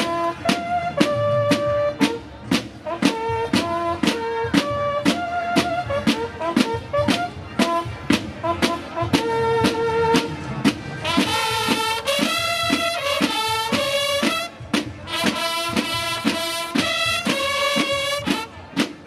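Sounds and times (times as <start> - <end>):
brass horns playing: 0.0 - 2.2, 2.8 - 10.4, 11.0 - 18.9
steady beat: 0.0 - 19.0.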